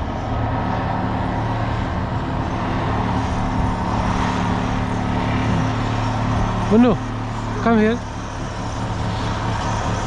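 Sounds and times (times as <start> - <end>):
construction machine engine droning: 0.0 - 10.0.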